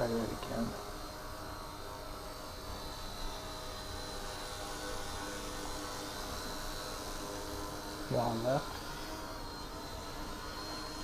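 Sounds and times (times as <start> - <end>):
toy helicopter buzzing whir: 0.0 - 11.0.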